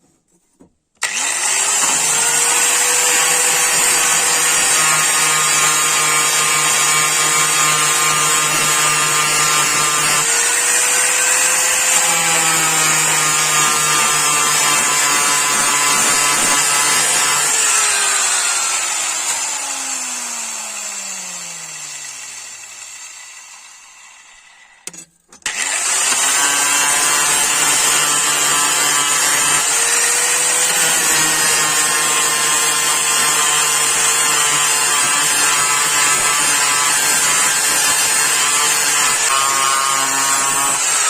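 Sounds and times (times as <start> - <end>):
power tool motor grinding: 1.0 - 41.0.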